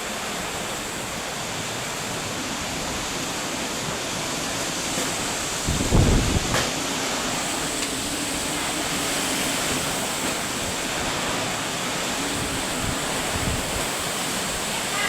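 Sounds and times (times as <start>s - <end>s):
wind rumble: 0.0s - 14.8s
pouring rain hiss: 0.0s - 15.0s.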